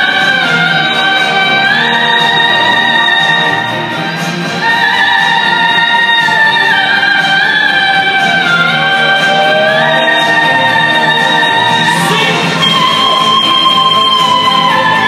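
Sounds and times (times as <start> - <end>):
operatic singing: 0.0 - 15.0
orchestral strings: 0.0 - 15.0.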